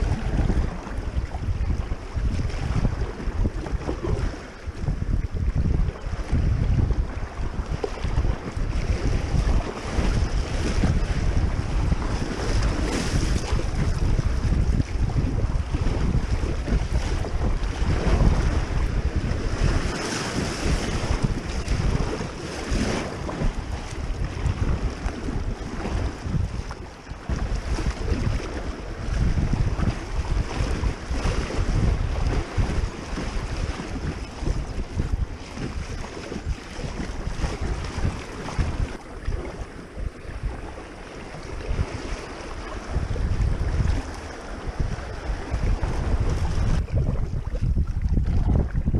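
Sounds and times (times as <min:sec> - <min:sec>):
creek water rushing and splashing: 0:00.0 - 0:48.9
wind buffeting microphone: 0:00.0 - 0:48.9.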